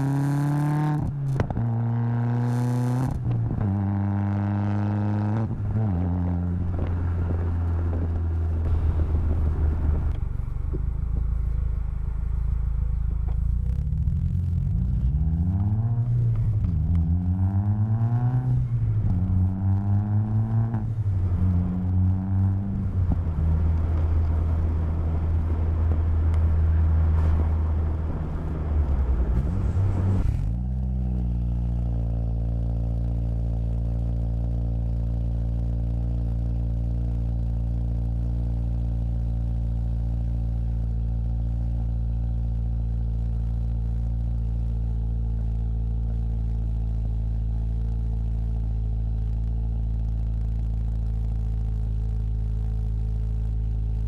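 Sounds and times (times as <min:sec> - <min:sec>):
car engine accelerating through gears: 0:00.0 - 0:54.0
car engine idling: 0:05.5 - 0:15.3, 0:18.6 - 0:54.0.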